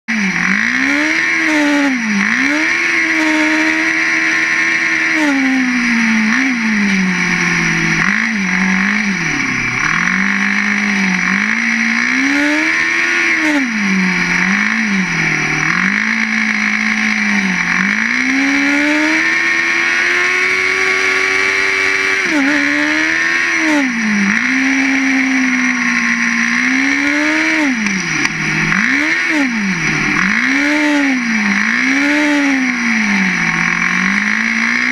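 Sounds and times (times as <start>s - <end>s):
racing car engine revving: 0.1s - 34.9s.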